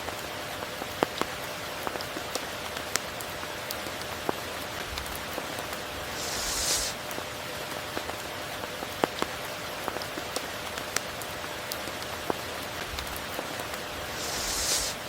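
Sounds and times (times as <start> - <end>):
raindrops clicking: 0.0 - 14.5
rain falling: 0.0 - 15.0.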